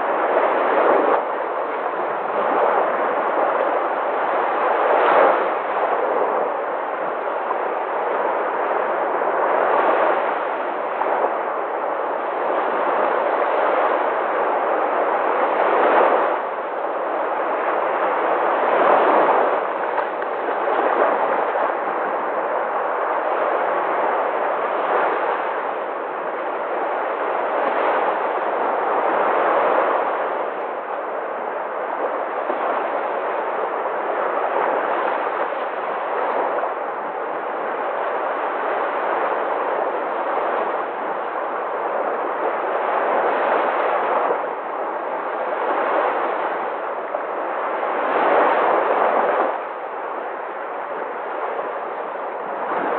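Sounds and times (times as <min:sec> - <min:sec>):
sea waves breaking: 0:00.0 - 0:52.9.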